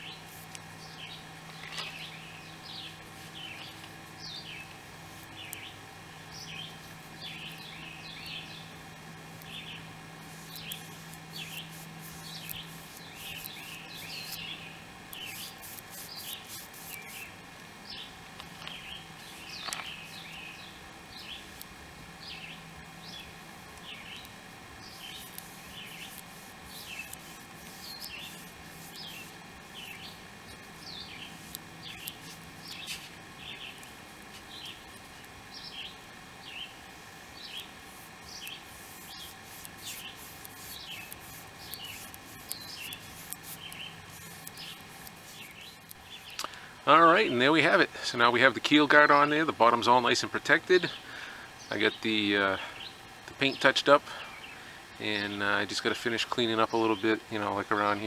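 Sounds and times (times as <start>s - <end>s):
small birds chirping: 0.0s - 47.7s, 48.5s - 58.0s
steady low hum: 0.0s - 58.0s.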